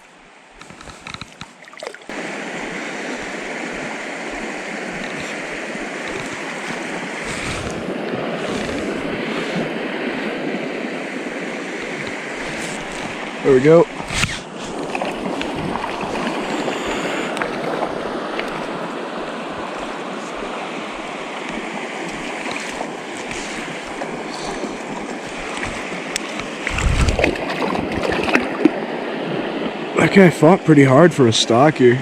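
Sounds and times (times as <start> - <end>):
creek water running over rocks: 0.0 - 29.2.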